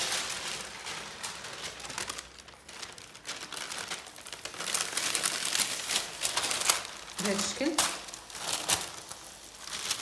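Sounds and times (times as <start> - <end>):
baking paper crinkling: 0.0 - 10.0.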